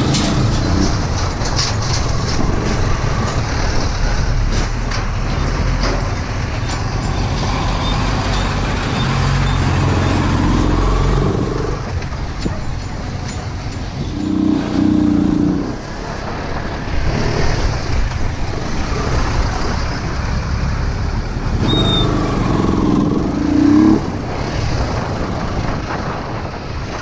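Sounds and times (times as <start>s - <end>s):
motorcycle engine rumbling: 0.0s - 27.0s
wind noise on microphone: 0.0s - 27.0s.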